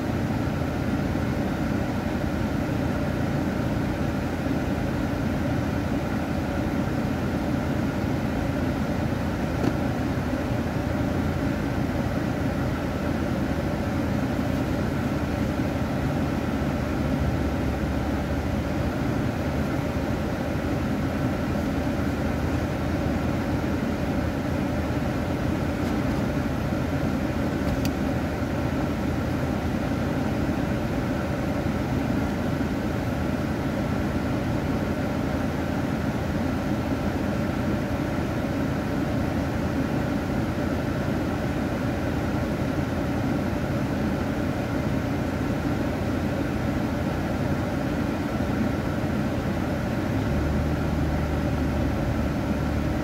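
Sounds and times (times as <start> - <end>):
car idling from inside cabin: 0.0 - 53.0.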